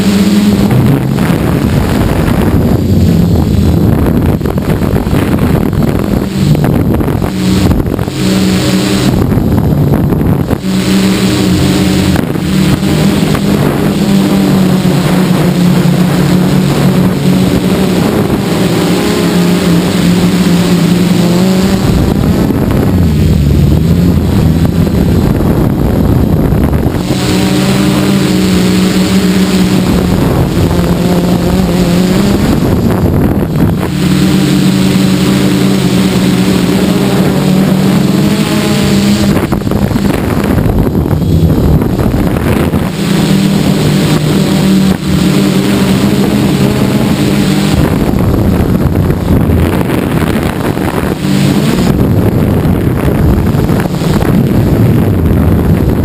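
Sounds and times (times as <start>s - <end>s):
drone propellers buzzing: 0.0s - 56.0s
wind noise on microphone: 0.0s - 56.0s.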